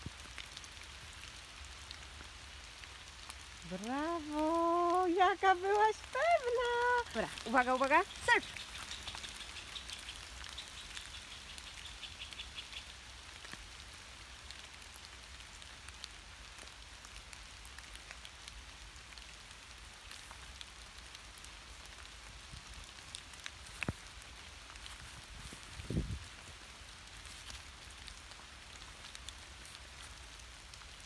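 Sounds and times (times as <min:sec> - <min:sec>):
light rain pattering on leaves: 0:00.0 - 0:31.0.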